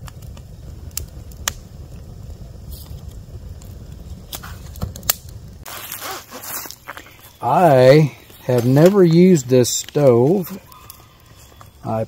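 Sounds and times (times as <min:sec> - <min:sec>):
campfire flame rushing: 0:00.0 - 0:12.0
fire crackling and popping: 0:00.0 - 0:12.0.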